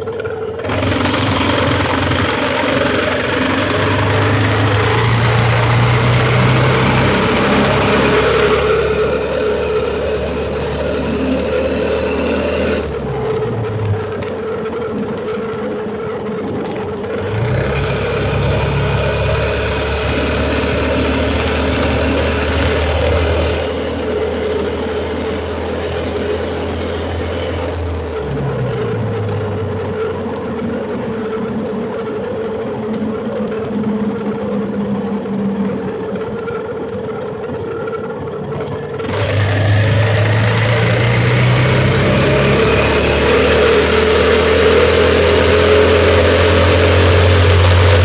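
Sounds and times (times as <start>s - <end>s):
motorized bicycle engine running: 0.0s - 48.0s.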